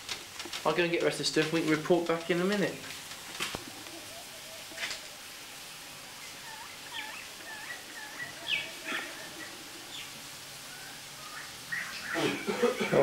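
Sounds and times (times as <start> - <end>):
birds chirping: 0.0 - 13.0
faint steady hiss: 0.0 - 13.0.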